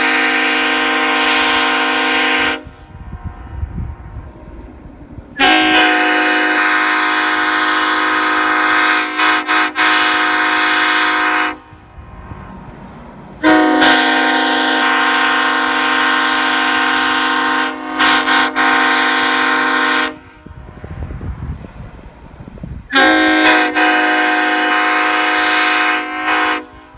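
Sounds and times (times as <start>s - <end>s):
locomotive air horn blasts: 0.0s - 3.7s, 5.4s - 12.0s, 13.4s - 20.8s, 22.9s - 26.9s.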